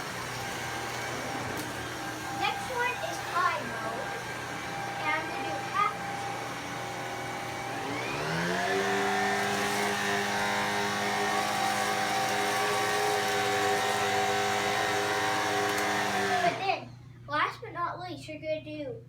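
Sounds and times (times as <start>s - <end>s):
stick vacuum motor whining: 0.0s - 16.8s.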